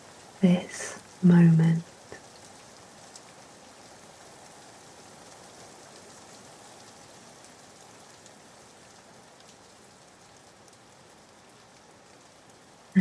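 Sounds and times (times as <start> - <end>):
soft steady rain: 0.0 - 13.0.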